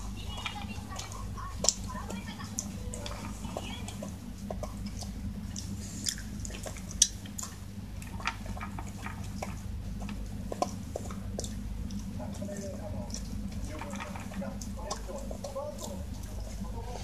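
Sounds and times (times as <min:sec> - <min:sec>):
dog crunching dry kibble: 0:00.0 - 0:17.0.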